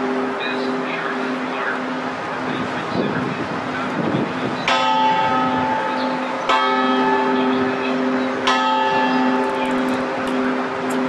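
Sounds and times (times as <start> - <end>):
ship's bell ringing: 0.0 - 11.0.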